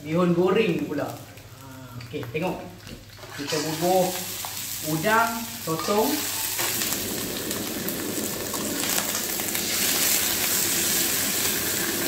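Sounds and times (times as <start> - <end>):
seafood sizzling in hot oil: 0.2 - 12.0.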